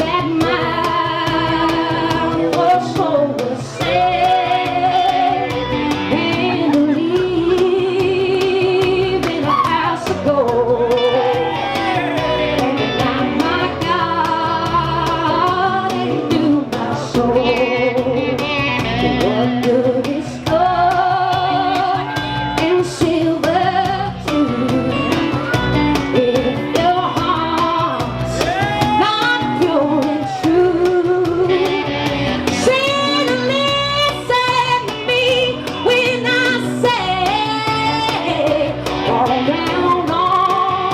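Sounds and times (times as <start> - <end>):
woman singing with vibrato: 0.0 - 31.9, 32.5 - 40.9
guitar accompaniment: 0.0 - 40.9.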